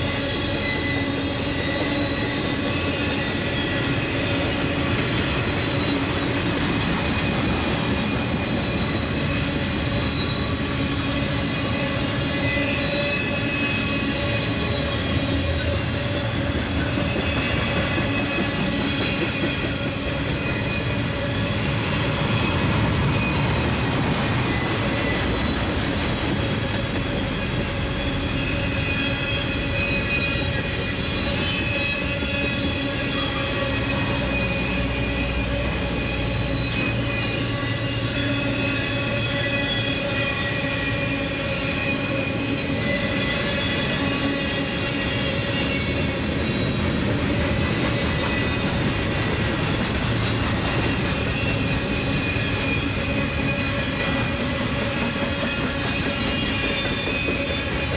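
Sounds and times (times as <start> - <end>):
high wheel squeal: 0.0 - 57.9
train wheels rumbling on rail: 0.0 - 57.9.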